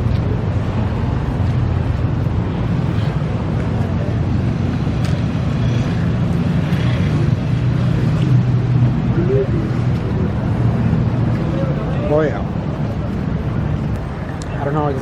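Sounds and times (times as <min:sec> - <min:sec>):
street traffic engines rumbling: 0:00.0 - 0:15.0.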